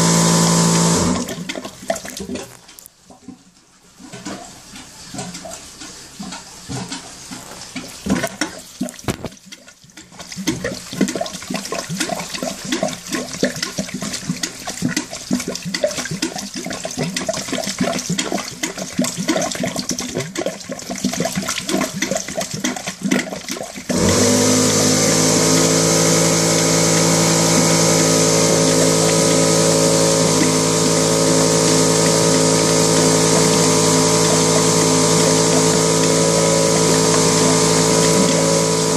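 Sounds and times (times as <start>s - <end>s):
water gushing into toilet bowl: 0.0s - 2.8s, 4.0s - 38.9s
pump motor humming: 0.0s - 38.9s.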